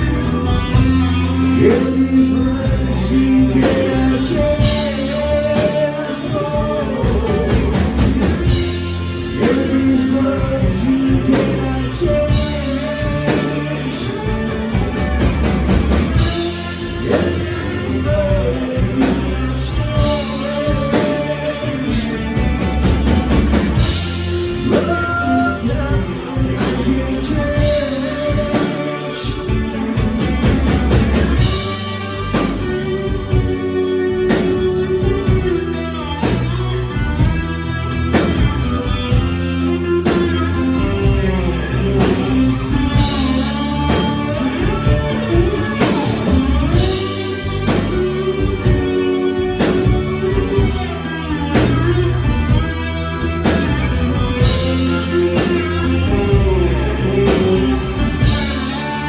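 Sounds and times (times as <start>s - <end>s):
bass guitar: 0.0s - 59.0s
drum kit: 0.0s - 59.0s
electric guitar lead: 0.0s - 59.0s.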